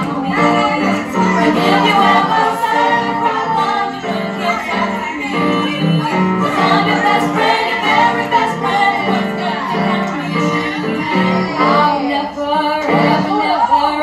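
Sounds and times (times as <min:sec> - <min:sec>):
backing track: 0:00.0 - 0:13.7
girls singing pop song: 0:00.0 - 0:14.0.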